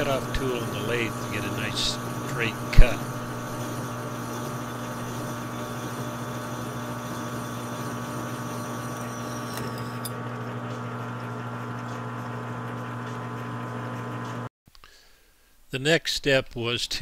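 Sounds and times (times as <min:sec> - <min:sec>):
lathe motor running: 0:00.0 - 0:14.5.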